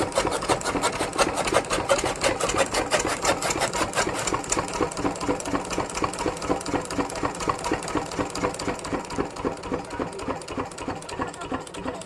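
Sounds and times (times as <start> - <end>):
small diesel engine running: 0.0 - 12.0.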